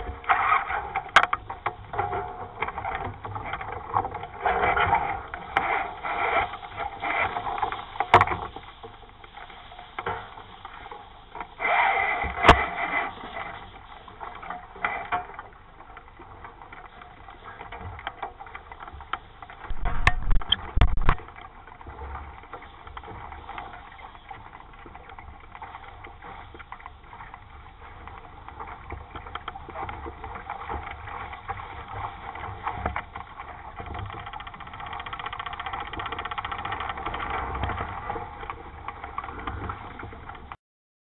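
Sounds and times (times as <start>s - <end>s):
water and wind rushing: 0.0s - 40.6s.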